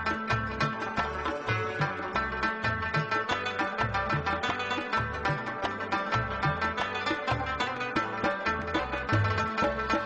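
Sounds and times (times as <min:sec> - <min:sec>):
folk-style plucked string music: 0:00.0 - 0:10.0.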